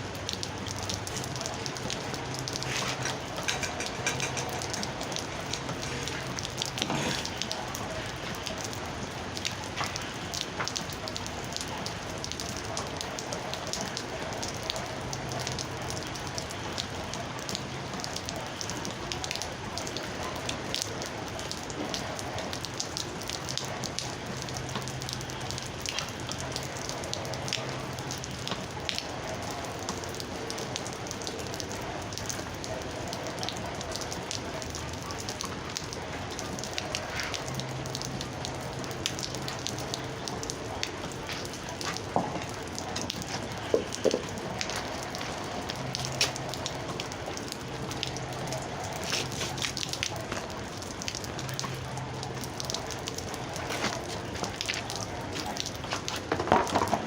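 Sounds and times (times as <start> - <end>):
raindrops striking close by: 0.0 - 57.0
steady rain falling: 0.0 - 57.0.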